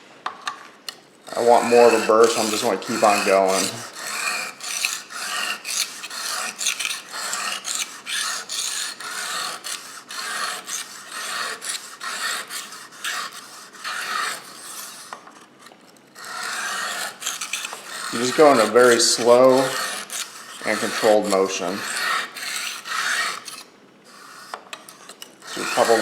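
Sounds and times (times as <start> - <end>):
knife scraping on sharpening stone: 1.3 - 15.2, 16.2 - 26.0.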